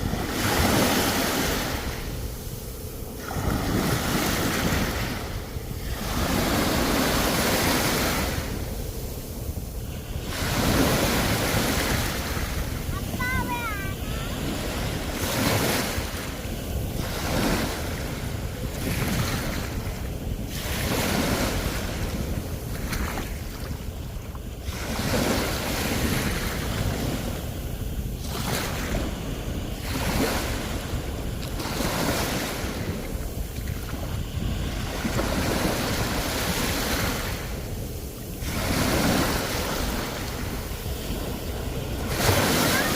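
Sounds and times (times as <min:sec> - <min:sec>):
sea waves breaking on shore: 0:00.0 - 0:42.9
wind rumbling on microphone: 0:00.0 - 0:42.9.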